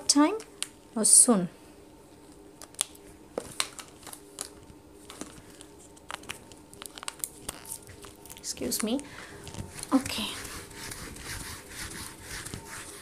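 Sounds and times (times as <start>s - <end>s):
faint steady hum: 0.0s - 13.0s
crinkling rustles: 2.3s - 12.9s.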